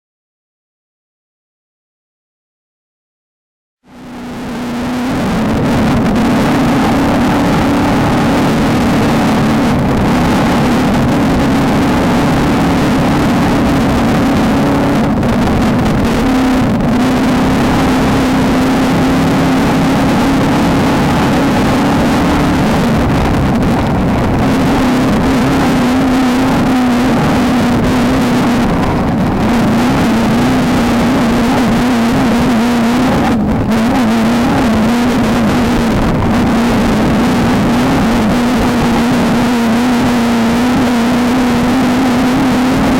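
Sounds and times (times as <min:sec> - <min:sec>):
race vehicle engine running hard: 0:03.8 - 0:42.9
wind and terrain noise: 0:03.8 - 0:42.9.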